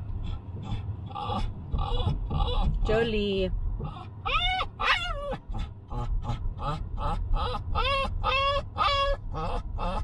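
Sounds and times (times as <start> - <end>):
dog whining: 0.6 - 2.8, 3.8 - 10.0.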